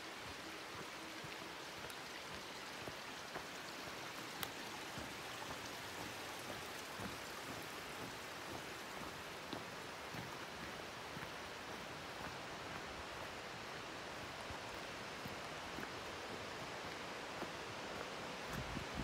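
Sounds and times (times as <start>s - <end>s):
creek water flowing: 0.0s - 19.0s
footsteps on trail: 0.0s - 19.0s.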